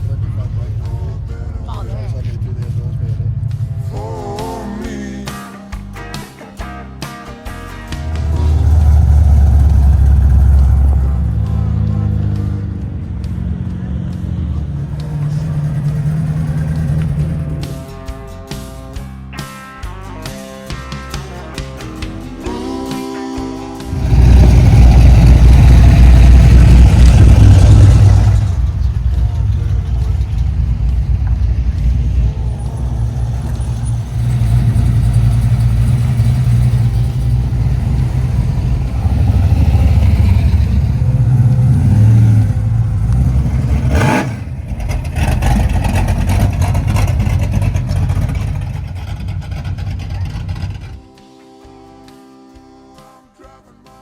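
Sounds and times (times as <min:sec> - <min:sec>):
car engines rumbling and revving: 0:00.0 - 0:51.2.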